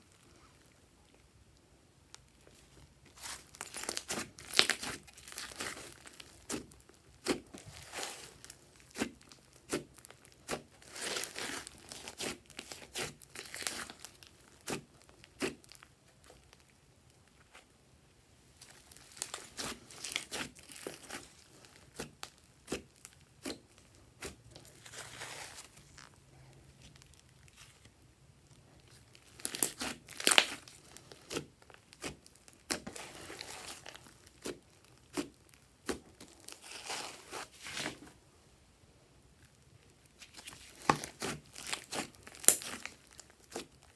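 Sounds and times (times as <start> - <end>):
slime crackling and popping: 2.1 - 17.2, 18.6 - 38.0, 39.4 - 43.9.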